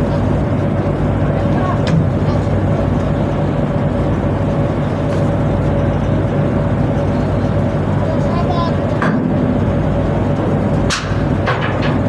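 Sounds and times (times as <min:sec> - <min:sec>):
boat diesel engines droning: 0:00.0 - 0:12.0.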